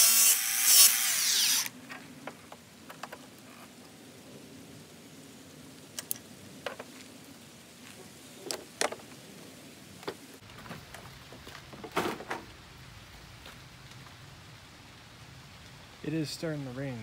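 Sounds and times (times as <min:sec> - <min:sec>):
rain falling: 0:01.7 - 0:17.0.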